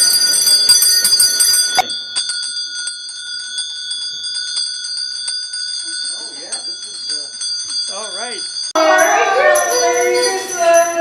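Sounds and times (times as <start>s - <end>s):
handbell ringing rapidly: 0.0s - 11.0s.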